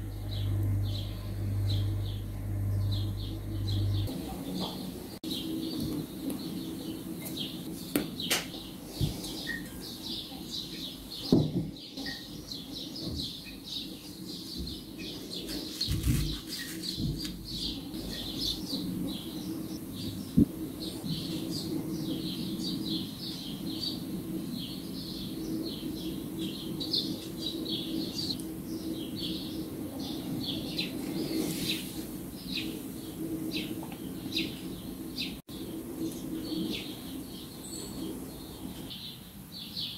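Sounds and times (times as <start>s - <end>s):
steady low sound: 0.0s - 9.4s, 14.8s - 38.9s
birds chirping: 0.0s - 39.9s.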